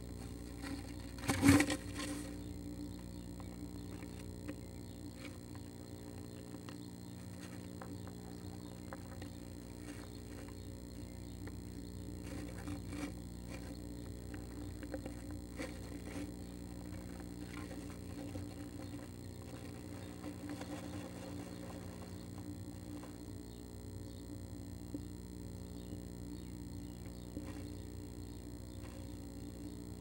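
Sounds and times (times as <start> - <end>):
claws scratching and tapping on shavings: 0.0 - 24.3, 25.9 - 30.0
steady hum: 0.0 - 30.0.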